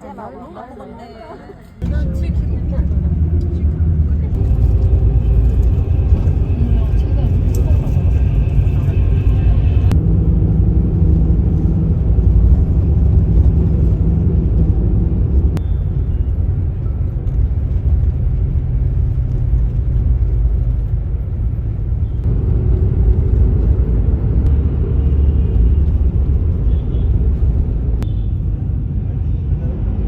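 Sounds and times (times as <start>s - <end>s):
vehicle engine and tyres rumble: 0.0s - 30.0s.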